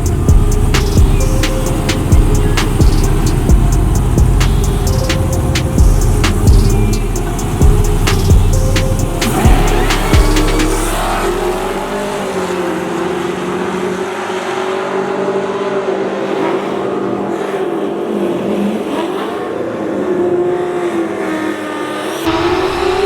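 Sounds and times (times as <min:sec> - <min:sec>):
race truck engine at high revs: 0:00.0 - 0:23.0.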